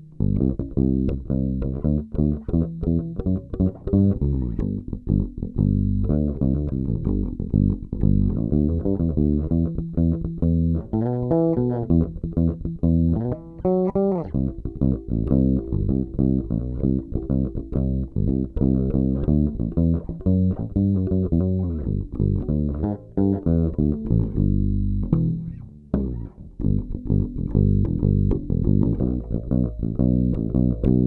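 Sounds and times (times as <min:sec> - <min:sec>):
electric bass plucked notes: 0:00.0 - 0:31.0.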